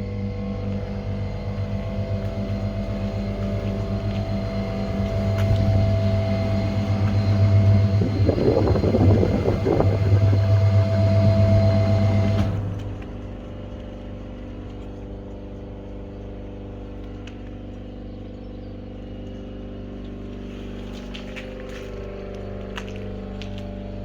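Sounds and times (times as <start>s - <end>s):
refrigeration units humming: 0.0s - 24.0s.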